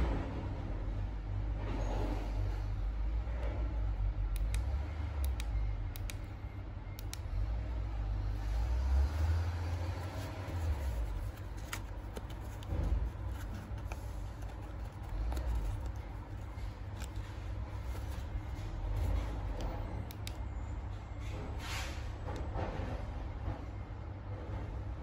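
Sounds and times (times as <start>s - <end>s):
low rumbling background noise: 0.0s - 25.0s.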